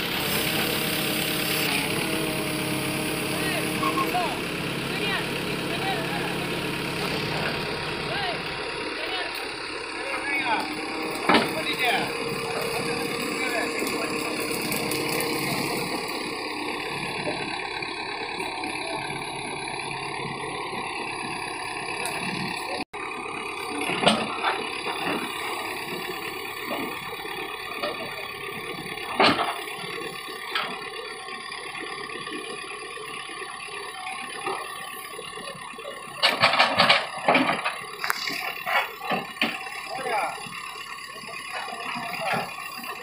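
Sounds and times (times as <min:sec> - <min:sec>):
backhoe engine running: 0:00.0 - 0:43.0.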